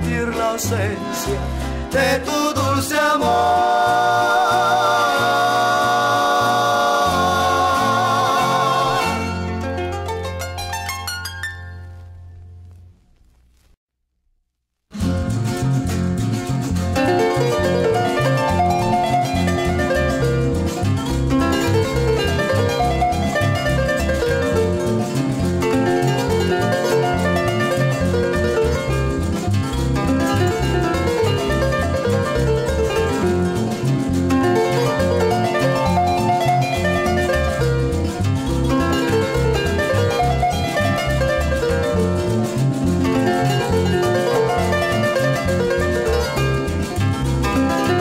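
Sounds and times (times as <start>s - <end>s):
guitars with alternating bass: 0.0s - 13.0s, 14.9s - 48.0s.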